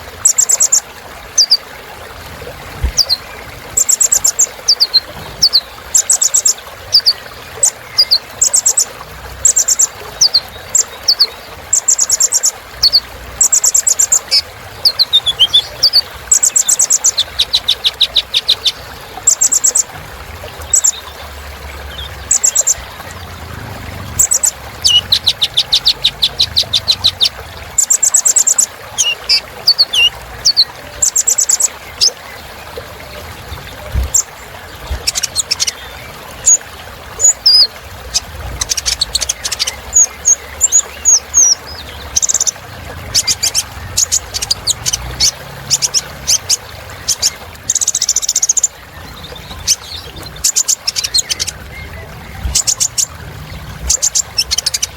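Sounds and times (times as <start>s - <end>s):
bird singing trills: 2.8s - 19.9s, 20.6s - 32.3s, 33.0s - 54.9s.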